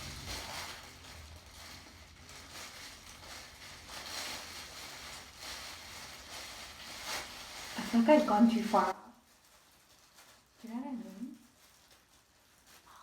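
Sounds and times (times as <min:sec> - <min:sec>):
hair rustling and swishing: 0:00.0 - 0:10.5.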